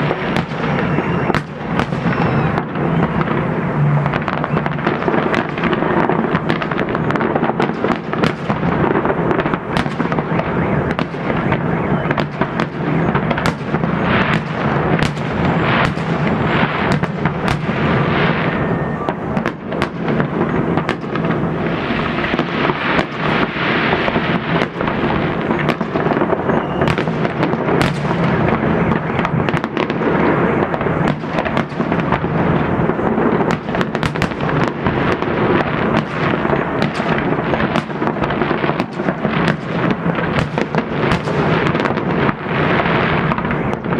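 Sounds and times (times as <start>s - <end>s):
fireworks cracking and banging: 0.0s - 43.9s.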